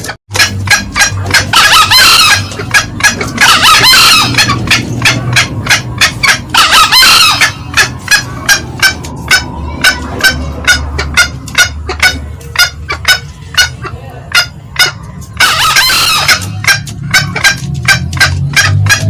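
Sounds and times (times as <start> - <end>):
junglefowl cackling: 0.0 - 19.0
junglefowl crowing: 0.0 - 19.0.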